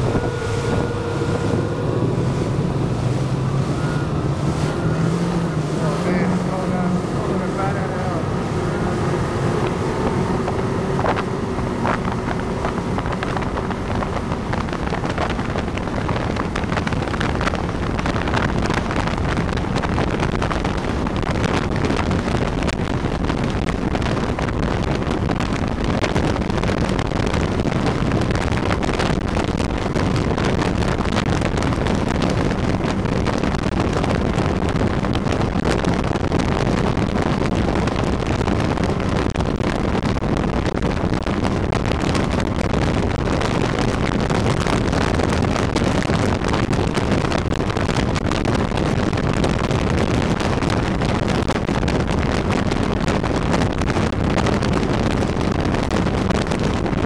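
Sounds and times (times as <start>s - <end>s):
motorboat engines running: 0.0s - 57.0s
water rushing: 0.0s - 57.0s
wind buffeting microphone: 0.0s - 57.0s.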